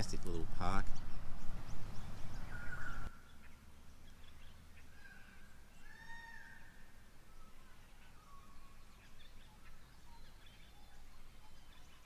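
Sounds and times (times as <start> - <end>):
birds whistling: 0.9 - 12.0.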